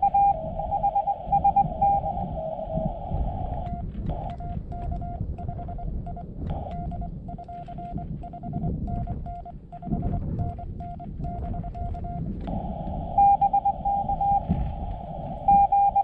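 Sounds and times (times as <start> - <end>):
low rumble: 0.0 - 16.0
morse code tone beeping: 0.0 - 16.0.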